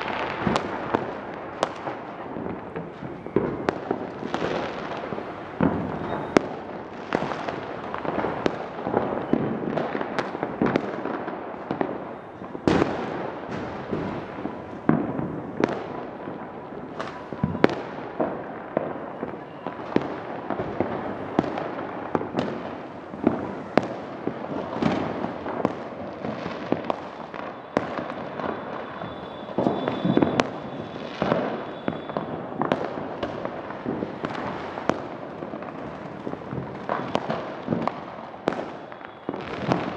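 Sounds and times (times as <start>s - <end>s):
distant fireworks rumble and crackle: 0.0s - 39.9s
firecracker bangs: 0.0s - 39.9s.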